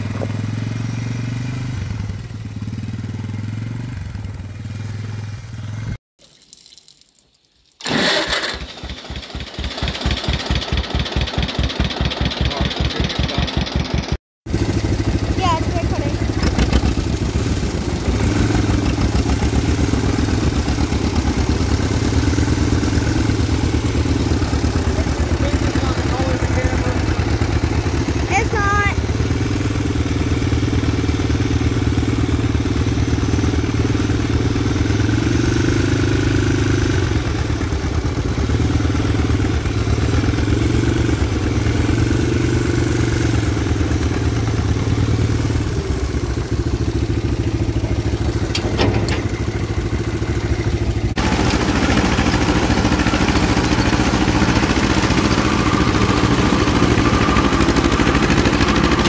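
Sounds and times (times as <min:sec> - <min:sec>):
tractor engine running: 0:00.0 - 0:05.9, 0:07.8 - 0:59.0
three-wheeler engine running: 0:00.0 - 0:06.0, 0:07.8 - 0:59.0.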